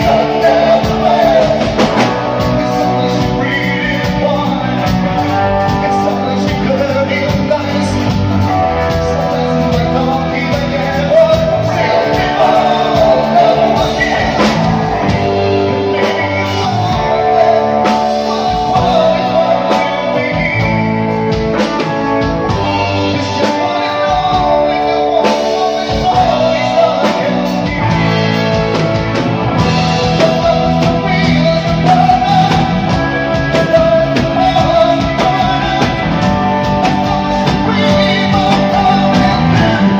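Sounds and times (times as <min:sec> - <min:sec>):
electric guitar: 0:00.0 - 0:39.9
man singing into microphone: 0:00.0 - 0:39.9.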